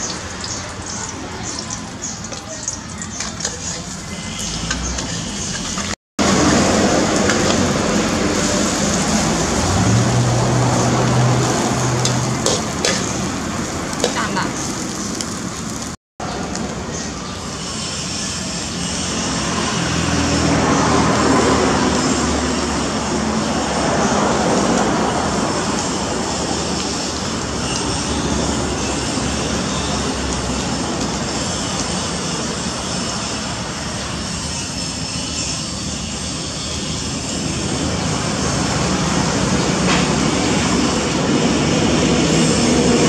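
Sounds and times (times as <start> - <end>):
engine drone: 0.0 - 43.0.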